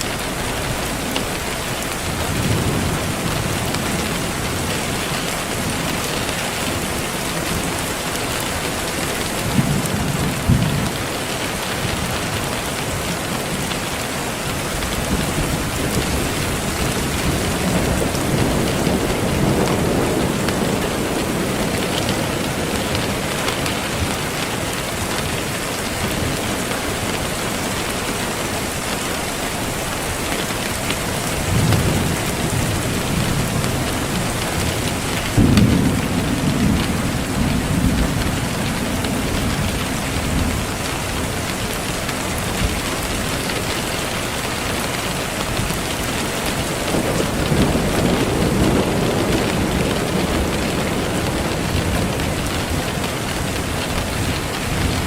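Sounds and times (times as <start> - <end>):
steady rain: 0.0 - 55.0
low thunder rumbles: 0.1 - 28.8, 30.6 - 55.0.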